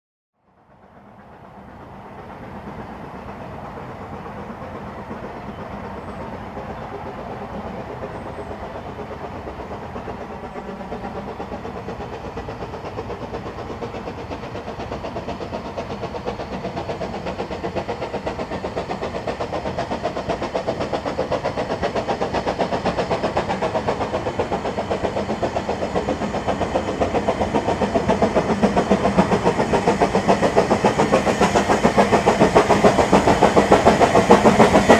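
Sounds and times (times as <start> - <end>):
steam locomotive exhaust beats: 0.5 - 34.9
steam hissing: 0.6 - 34.9.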